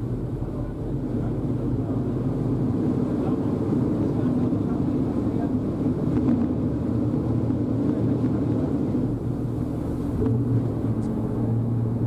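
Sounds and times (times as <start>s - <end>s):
ferry engine droning: 0.0s - 12.0s.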